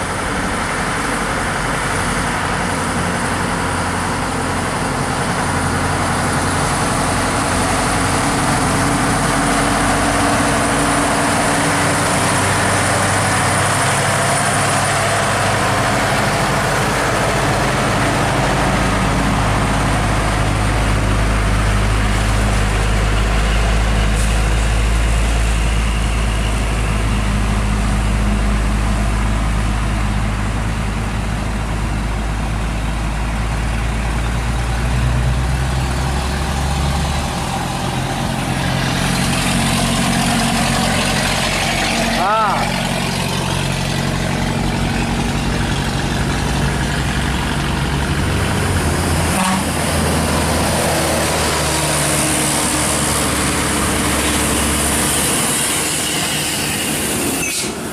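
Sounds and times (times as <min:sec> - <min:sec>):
truck diesel engine rumbling: 0:00.0 - 0:57.9.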